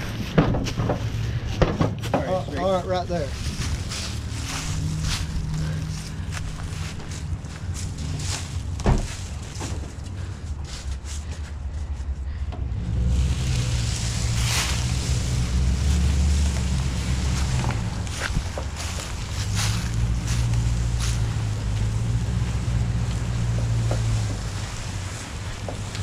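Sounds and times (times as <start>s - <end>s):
vehicle engine running: 0.8s - 26.0s.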